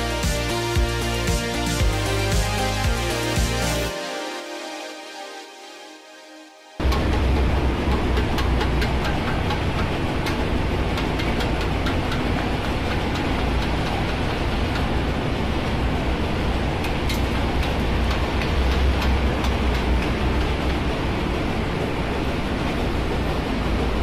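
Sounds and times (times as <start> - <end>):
engine room machinery drone: 0.0 - 24.0.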